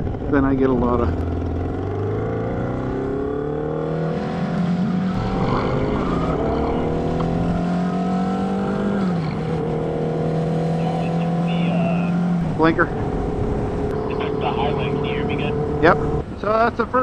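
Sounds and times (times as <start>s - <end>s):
motorcycle engine accelerating: 0.0s - 16.2s.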